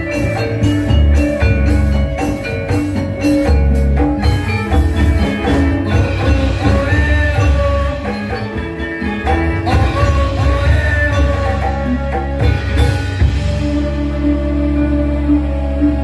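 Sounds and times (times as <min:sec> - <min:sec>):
metallophones ringing: 0:00.0 - 0:15.5
drums: 0:00.0 - 0:16.0.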